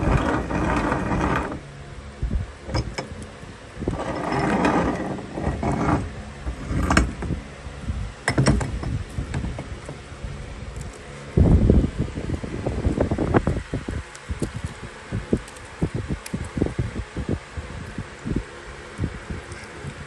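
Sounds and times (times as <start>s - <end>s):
grinding: 0.0s - 12.0s, 12.6s - 20.0s.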